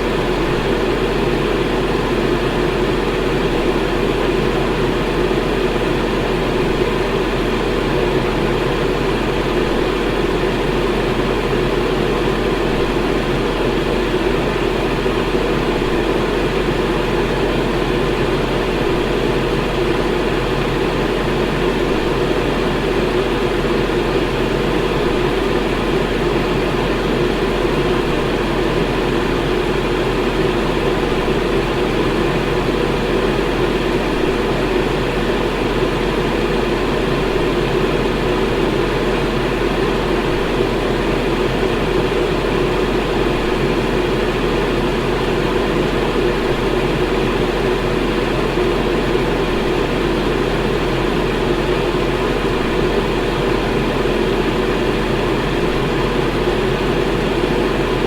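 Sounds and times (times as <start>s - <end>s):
electric fan running: 0.0s - 58.0s.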